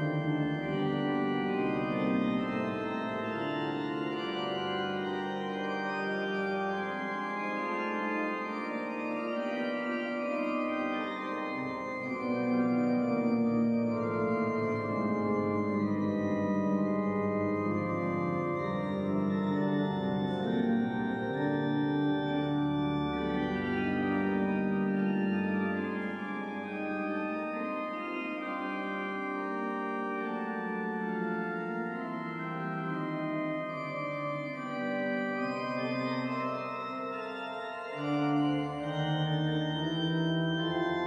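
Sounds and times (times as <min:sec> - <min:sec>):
organ playing sustained chords: 0:00.0 - 0:41.0.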